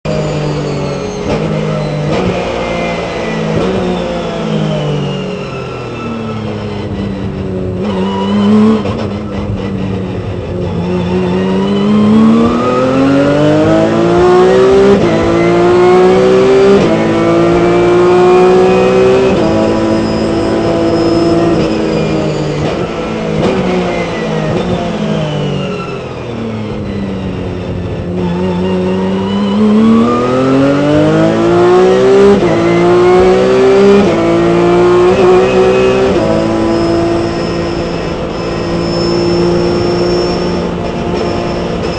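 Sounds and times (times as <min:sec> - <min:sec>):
race car engine revving: 0:00.1 - 0:41.9.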